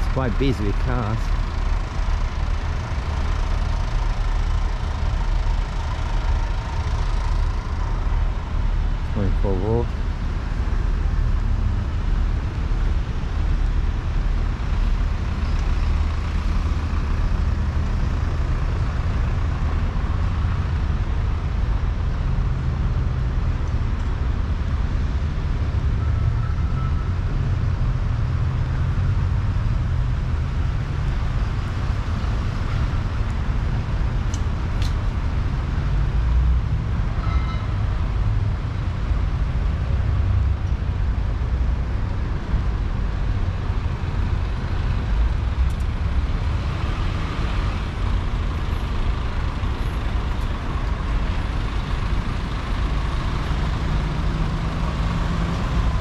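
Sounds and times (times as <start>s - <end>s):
cars and trucks passing: 0.0s - 56.0s.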